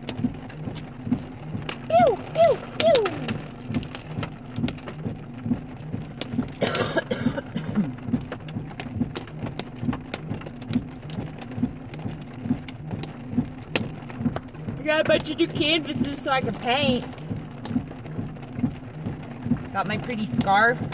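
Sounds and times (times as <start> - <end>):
hailstones ticking on car: 0.0 - 20.9
rain pattering on car roof: 0.0 - 20.9.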